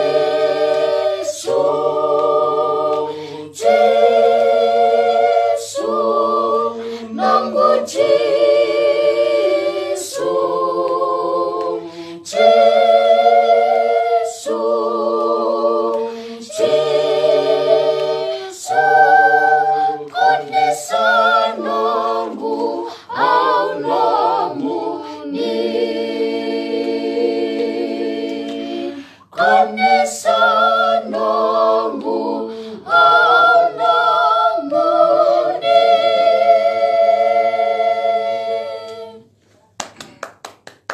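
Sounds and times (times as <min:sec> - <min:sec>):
choir singing a cappella: 0:00.0 - 0:39.4.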